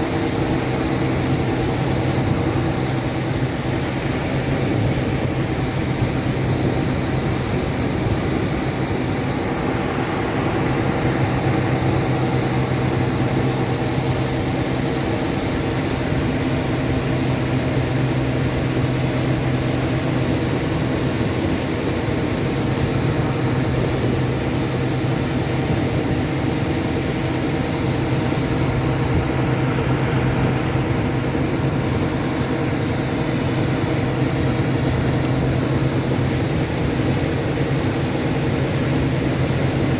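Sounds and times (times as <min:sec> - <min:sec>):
diesel engine running: 0:00.0 - 0:38.1.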